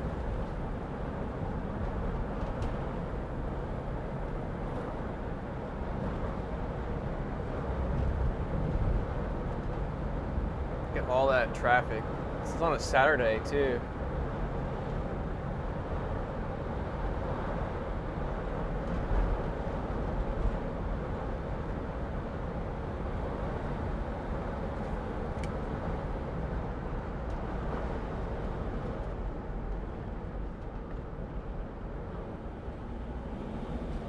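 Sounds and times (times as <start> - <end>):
van engine and road noise: 0.0 - 34.0.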